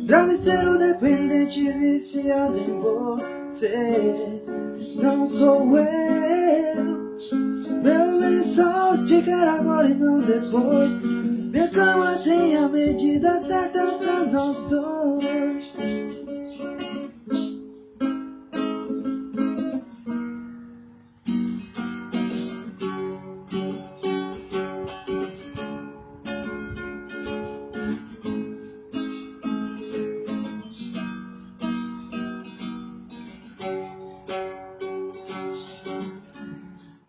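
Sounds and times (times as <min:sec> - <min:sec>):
acoustic strings strumming chords: 0:00.0 - 0:37.0.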